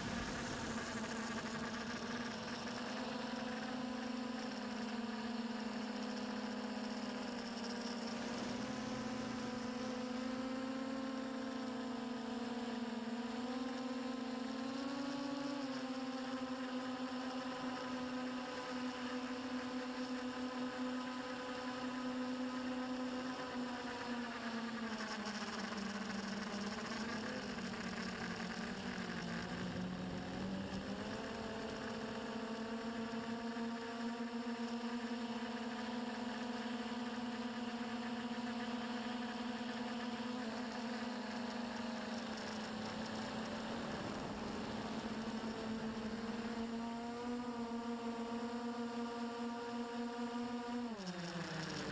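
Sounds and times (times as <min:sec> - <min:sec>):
drone motors and propellers buzzing: 0:00.0 - 0:51.9.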